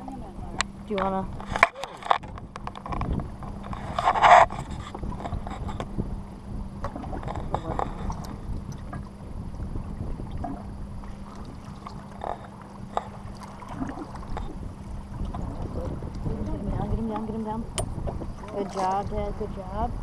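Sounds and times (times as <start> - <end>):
faint steady hum: 0.0 - 20.0
water lapping against boat: 0.0 - 20.0
wind on microphone: 0.0 - 20.0.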